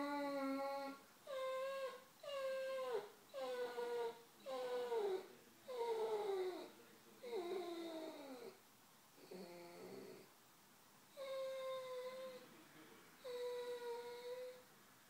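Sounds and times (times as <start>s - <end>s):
dog whining: 0.0s - 8.6s, 9.2s - 10.3s, 11.1s - 12.4s, 13.2s - 14.6s.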